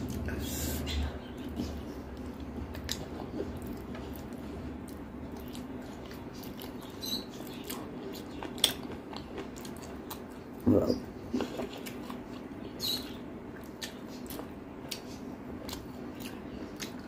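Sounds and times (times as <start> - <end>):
chewing and wet mouth sounds: 0.0 - 17.0
low steady hum: 0.0 - 17.0.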